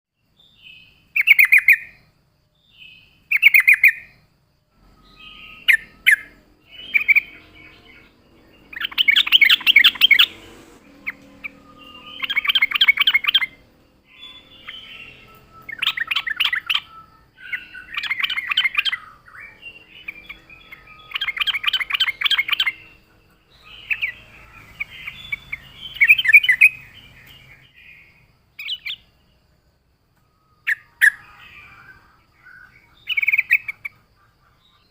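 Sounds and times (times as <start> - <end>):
bulbul chattering calls: 0.7 - 2.0, 2.9 - 4.2, 5.0 - 29.1, 30.6 - 34.9.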